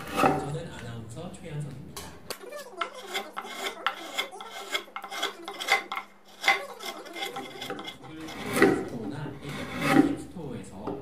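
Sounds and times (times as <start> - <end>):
file rasping wood: 0.0 - 0.6, 2.4 - 11.0.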